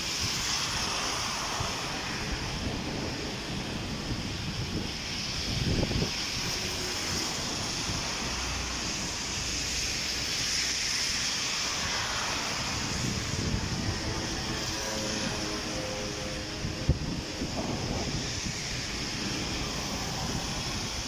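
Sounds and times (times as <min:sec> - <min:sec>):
heavy rain on pavement: 0:00.0 - 0:21.0
wind buffeting microphone: 0:00.0 - 0:21.0.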